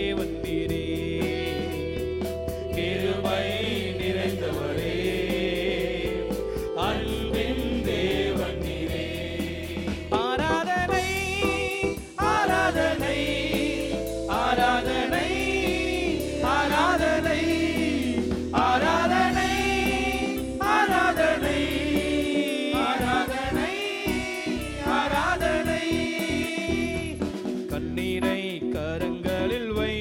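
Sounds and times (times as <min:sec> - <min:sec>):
sustained instrumental backing: 0:00.0 - 0:29.7
man singing into a microphone: 0:00.0 - 0:30.0.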